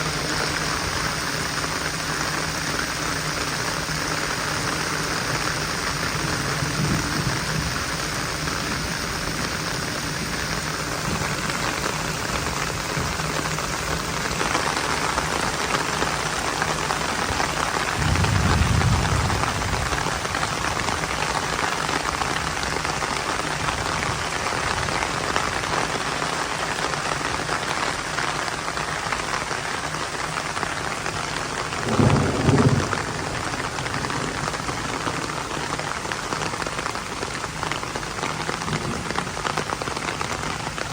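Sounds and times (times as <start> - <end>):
heavy rain: 0.0 - 40.9
thunder rumbling: 3.2 - 26.0, 30.8 - 40.9.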